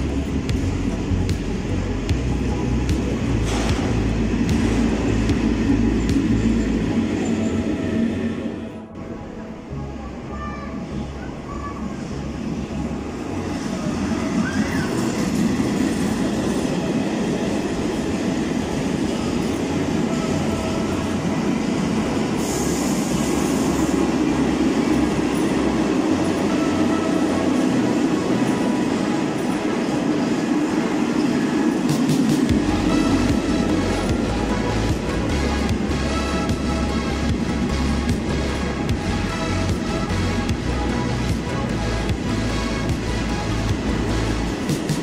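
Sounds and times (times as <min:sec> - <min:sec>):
train wheels rumbling on rails: 0:00.0 - 0:08.9, 0:11.9 - 0:45.0.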